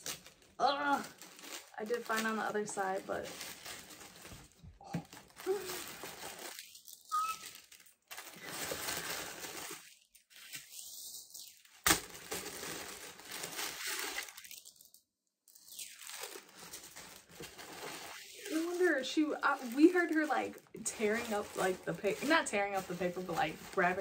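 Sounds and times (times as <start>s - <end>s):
wrapping paper rustling and tearing: 0.0s - 24.0s.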